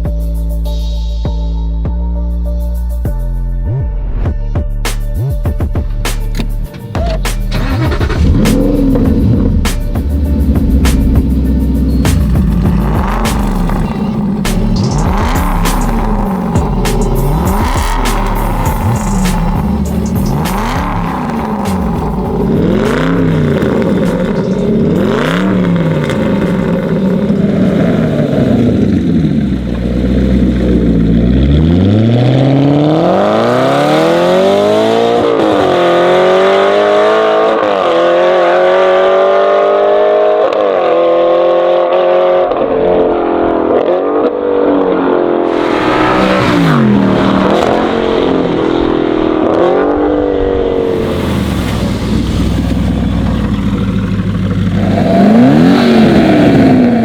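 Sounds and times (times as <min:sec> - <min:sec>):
car engine revving: 0:05.0 - 0:57.0
car accelerating through gears: 0:06.3 - 0:57.0.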